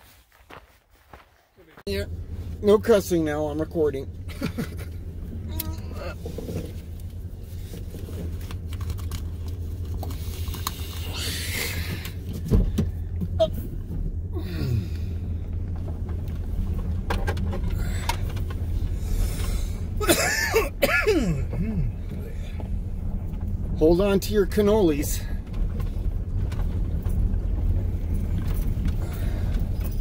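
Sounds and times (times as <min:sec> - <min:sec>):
truck engine running low: 0:01.9 - 0:30.0.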